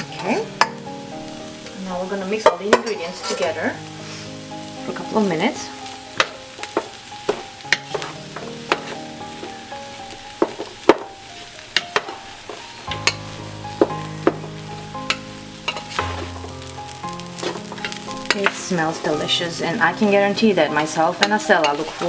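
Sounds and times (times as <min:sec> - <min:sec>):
frying hiss: 0:00.0 - 0:22.0.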